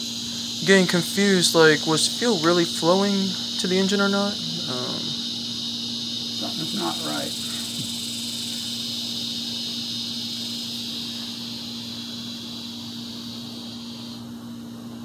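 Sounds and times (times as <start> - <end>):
insects trilling: 0.0 - 15.0
low electrical hum: 0.0 - 15.0.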